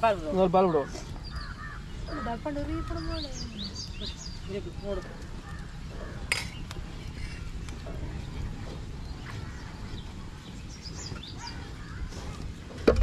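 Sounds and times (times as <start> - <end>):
faint bird chirps: 0.6 - 12.4.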